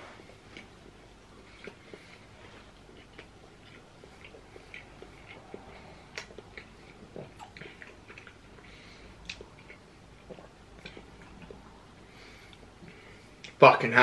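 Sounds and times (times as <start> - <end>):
people chewing food: 0.0 - 13.6.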